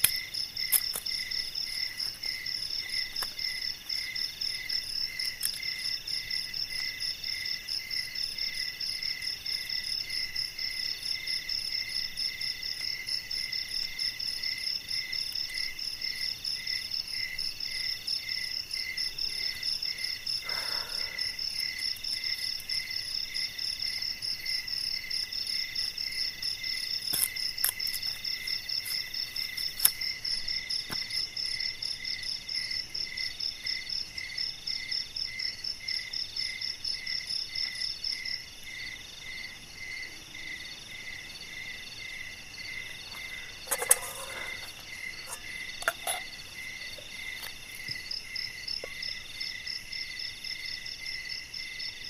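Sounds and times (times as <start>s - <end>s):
crickets and insects trilling: 0.0s - 52.0s.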